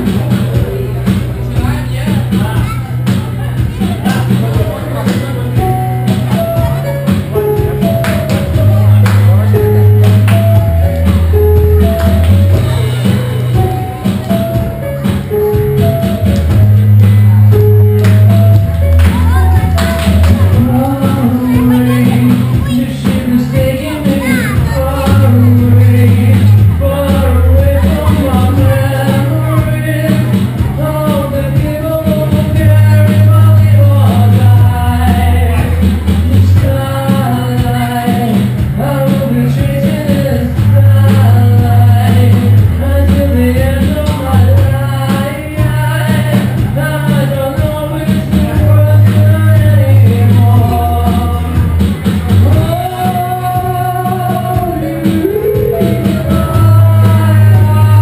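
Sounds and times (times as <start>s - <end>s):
heavy bass line: 0.0s - 58.0s
live rock band playing: 0.0s - 58.0s
man singing: 0.0s - 58.0s.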